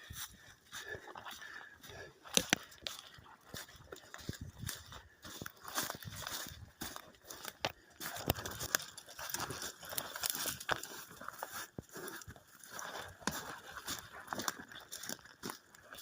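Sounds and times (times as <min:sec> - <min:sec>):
footsteps through dry brush: 0:00.0 - 0:16.0.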